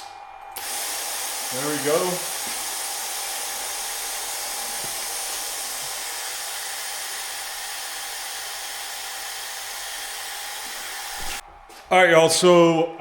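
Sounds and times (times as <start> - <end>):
compressed air hissing: 0.0 - 11.4.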